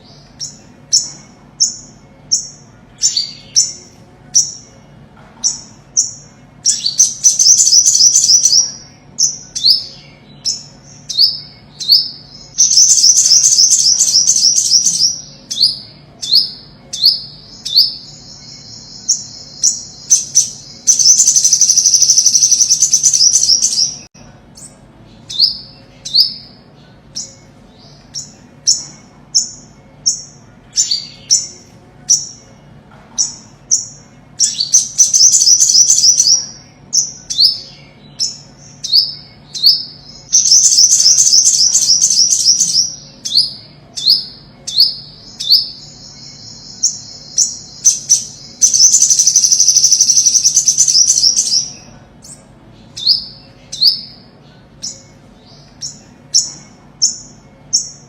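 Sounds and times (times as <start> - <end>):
bird buzzy trill: 0.0 - 58.0.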